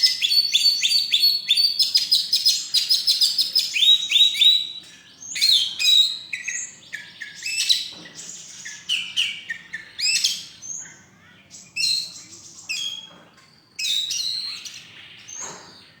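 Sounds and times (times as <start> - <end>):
songbird singing varied song: 0.0 - 16.0.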